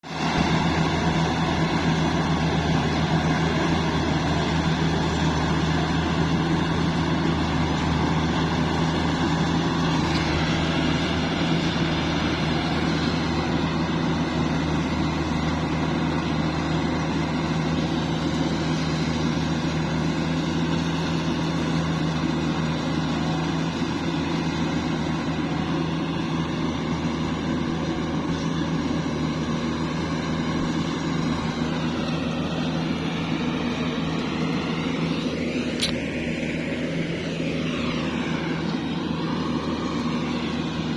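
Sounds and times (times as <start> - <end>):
combine harvester diesel engine running: 0.0 - 40.9.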